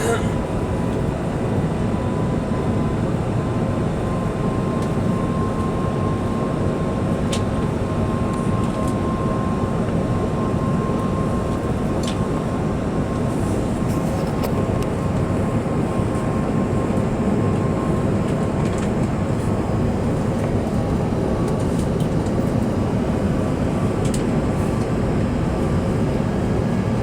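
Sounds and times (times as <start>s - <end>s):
airplane cabin roar: 0.0s - 27.0s.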